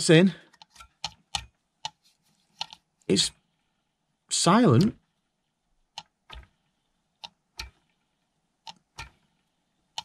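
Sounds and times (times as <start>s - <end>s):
faint paired ticking: 0.0s - 10.0s.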